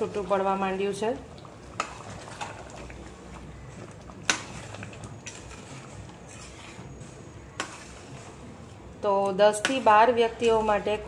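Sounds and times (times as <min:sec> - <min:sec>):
ladle stirring thick curry: 0:00.0 - 0:11.0.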